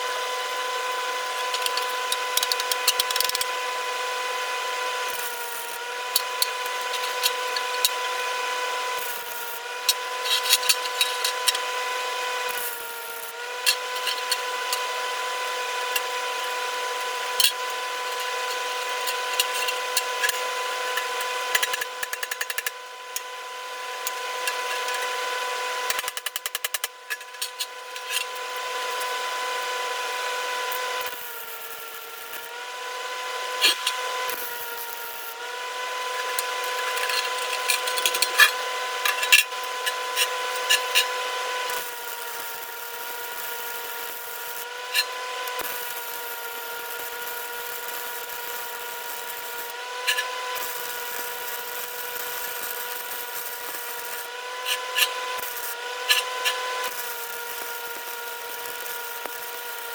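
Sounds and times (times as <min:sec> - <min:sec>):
power tool motor whine: 0:00.0 - 0:59.9.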